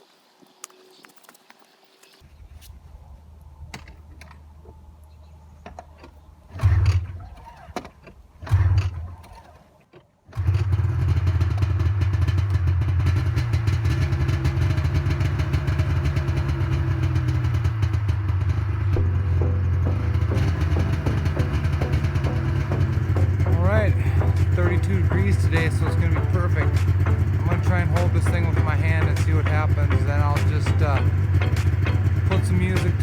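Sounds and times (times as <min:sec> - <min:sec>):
snowmobile engine pull-started: 0:06.5 - 0:33.0.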